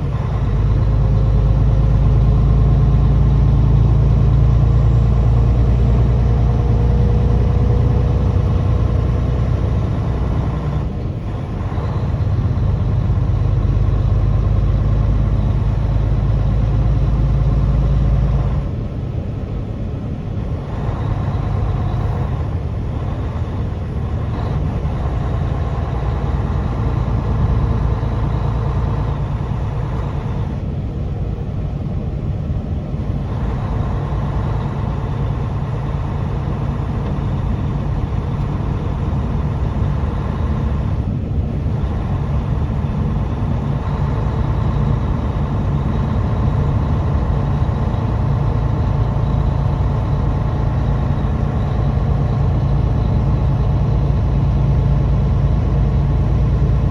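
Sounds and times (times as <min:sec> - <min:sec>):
truck engine drone: 0:00.0 - 0:56.9
tyre and road noise: 0:00.0 - 0:56.9.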